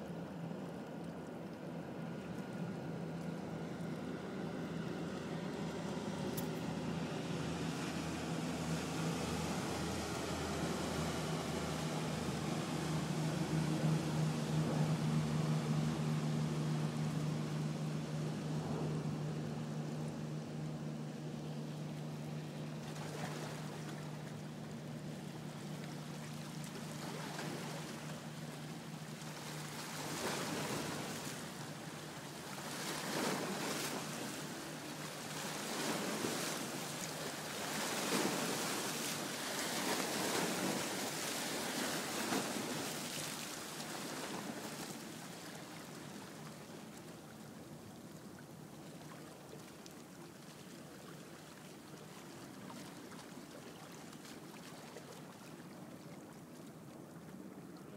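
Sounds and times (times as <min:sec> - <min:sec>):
low engine-like hum: 0:00.0 - 0:57.9
small waves lapping: 0:00.0 - 0:57.9.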